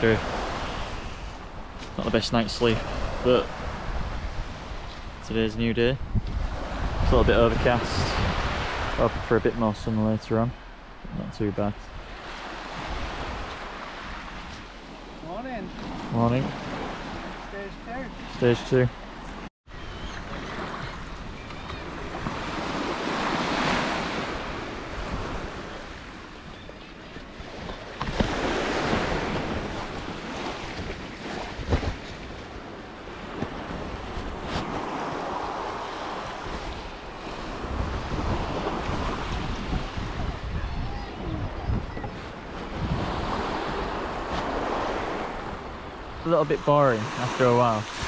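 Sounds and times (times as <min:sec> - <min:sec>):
wind buffeting microphone: 0:02.7 - 0:15.1, 0:19.1 - 0:46.3.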